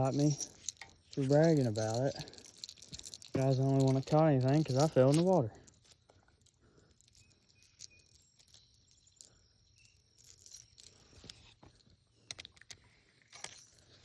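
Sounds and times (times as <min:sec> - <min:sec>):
small clicks and rustles: 0:00.0 - 0:14.0.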